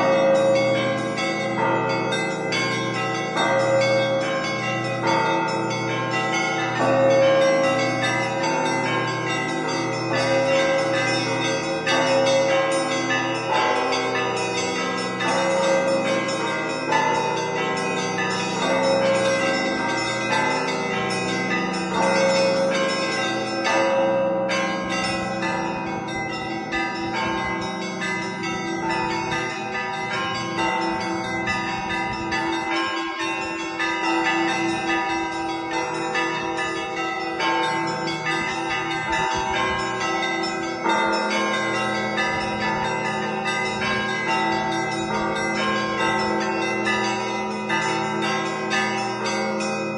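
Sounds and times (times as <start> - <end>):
church bells ringing: 0.0 - 49.9.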